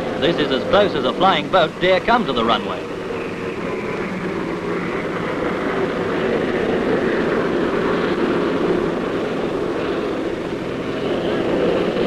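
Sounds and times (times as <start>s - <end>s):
piston engine aircraft droning: 0.0s - 12.0s.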